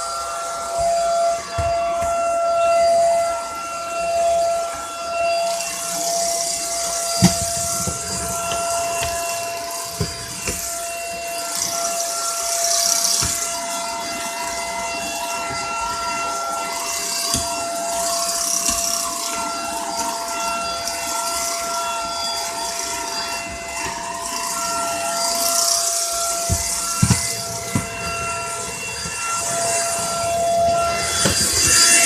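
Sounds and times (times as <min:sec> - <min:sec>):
stick vacuum running: 0:00.0 - 0:32.0.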